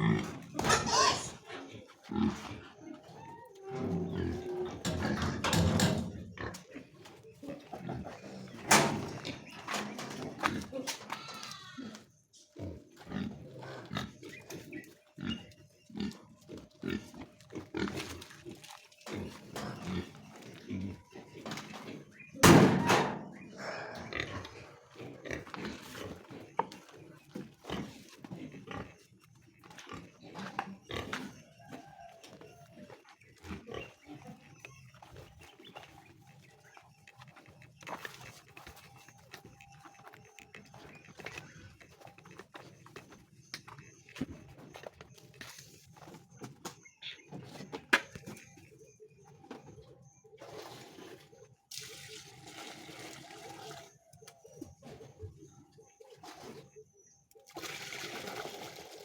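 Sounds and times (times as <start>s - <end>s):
pigs grunting: 0.0s - 51.7s.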